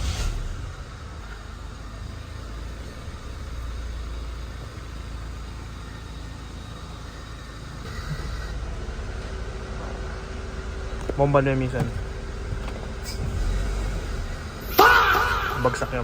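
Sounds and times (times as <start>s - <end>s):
car engine idling: 0.4s - 16.0s.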